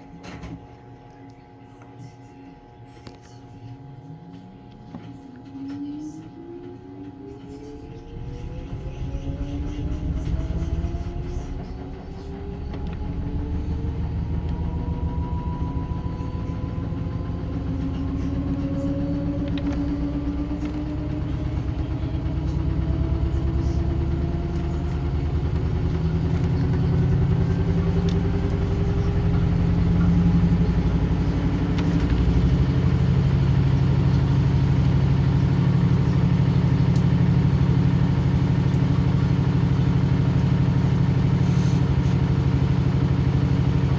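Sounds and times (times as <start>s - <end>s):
washing machine motor whine: 0.0s - 43.9s
drum rumbling: 7.7s - 43.9s.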